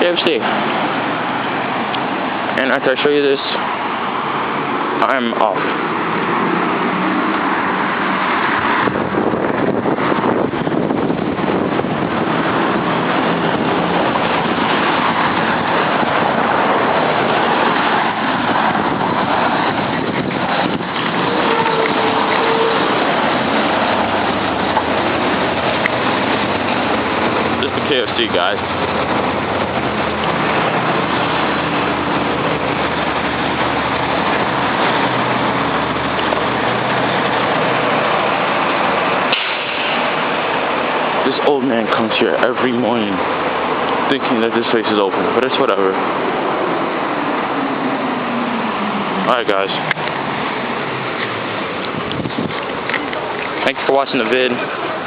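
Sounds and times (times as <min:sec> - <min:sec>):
low engine hum: 0:00.0 - 0:55.0
road traffic: 0:00.0 - 0:55.0
wind buffeting microphone: 0:00.0 - 0:55.0.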